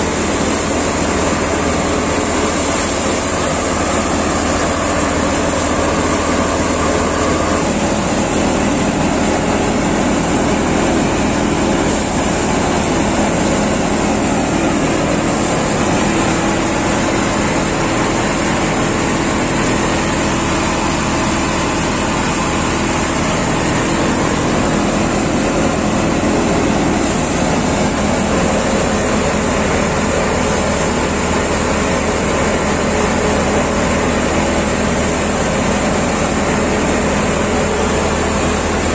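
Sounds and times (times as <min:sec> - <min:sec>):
thresher machine running: 0:00.0 - 0:38.9.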